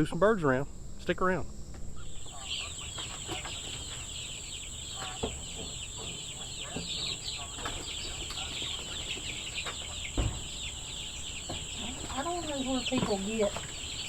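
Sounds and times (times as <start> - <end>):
chicks peeping: 1.8 - 14.0.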